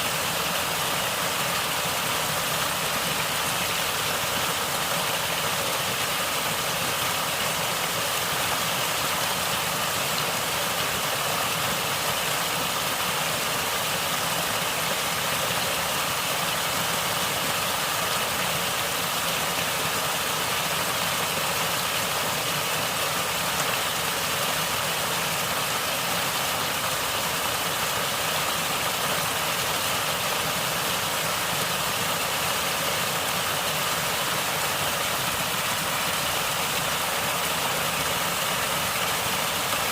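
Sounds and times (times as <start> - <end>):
running water gurgling: 0.0 - 39.9.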